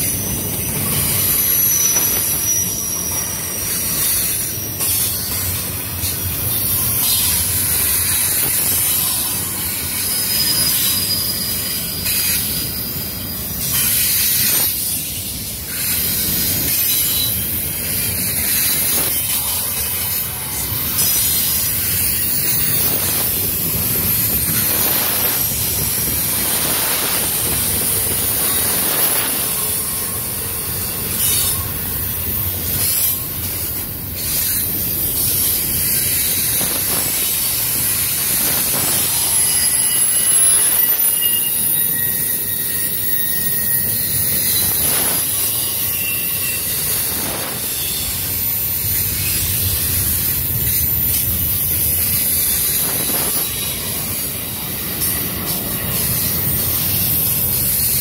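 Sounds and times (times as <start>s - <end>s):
high-pitched wheel squeal: 0.0s - 5.4s, 6.5s - 15.1s, 15.9s - 33.8s, 37.8s - 58.0s
train wheels rumbling on rail: 0.0s - 58.0s.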